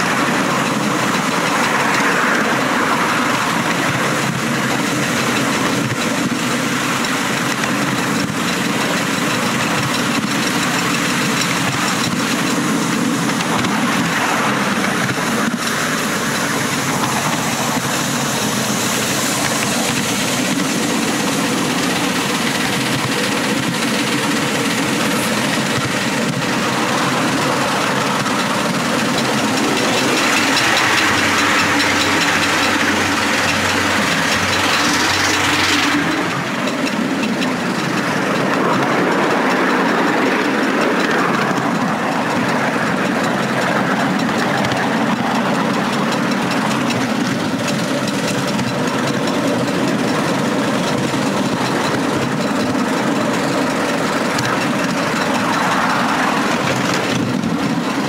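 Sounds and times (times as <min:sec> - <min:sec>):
miniature steam locomotive running: 0:00.0 - 0:58.0
steam hiss: 0:00.0 - 0:58.0
wheels on rails: 0:00.0 - 0:58.0.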